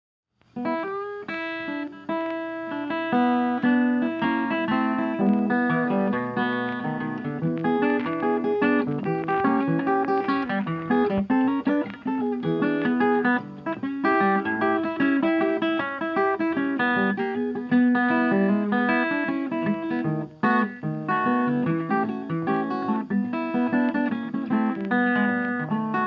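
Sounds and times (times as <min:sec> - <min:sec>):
fingerpicked guitar: 0:00.4 - 0:26.0.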